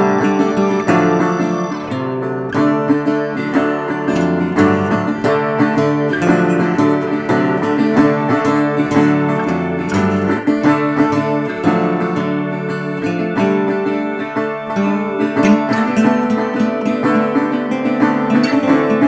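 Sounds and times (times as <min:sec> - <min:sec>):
acoustic guitar picking: 0:00.0 - 0:19.0.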